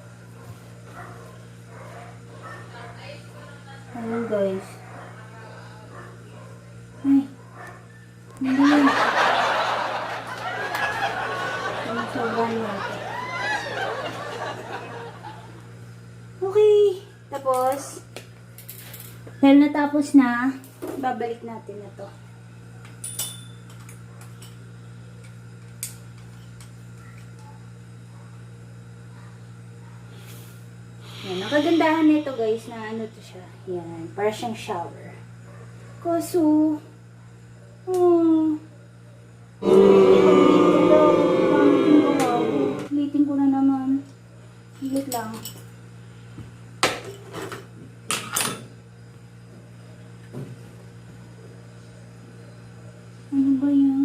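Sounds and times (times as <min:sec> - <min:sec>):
steady low hum: 0:00.0 - 0:48.1.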